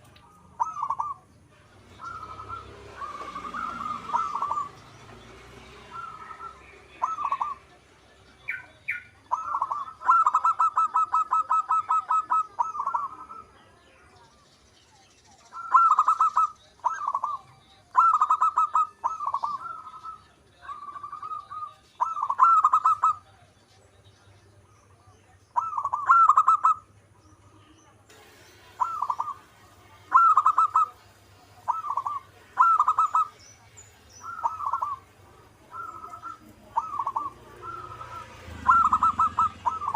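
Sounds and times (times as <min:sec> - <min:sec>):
dove cooing: 0:00.0 - 0:05.0, 0:05.6 - 0:07.8, 0:08.4 - 0:13.6, 0:15.5 - 0:23.4, 0:25.6 - 0:26.9, 0:28.6 - 0:39.9.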